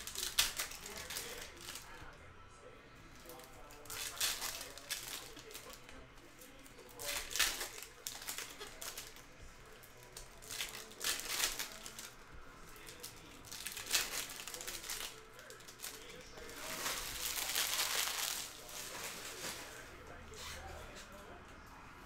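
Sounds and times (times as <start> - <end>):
foil wrappers crinkling: 0.0 - 2.2, 3.1 - 20.9.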